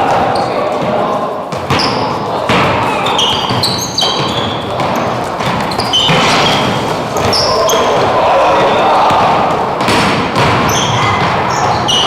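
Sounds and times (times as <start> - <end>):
basketball bouncing: 0.0 - 12.0
players' voices: 0.0 - 12.0
sneakers squeaking on court floor: 0.0 - 12.0.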